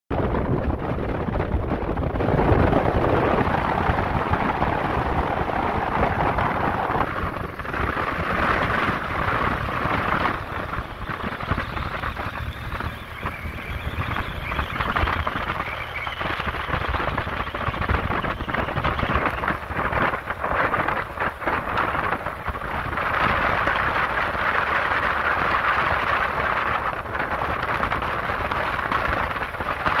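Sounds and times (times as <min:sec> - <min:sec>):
wind buffeting microphone: 0:00.1 - 0:30.0.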